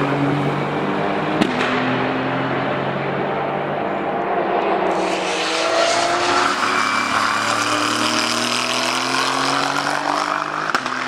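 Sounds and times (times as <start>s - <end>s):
race car engine passing: 0.0s - 11.0s.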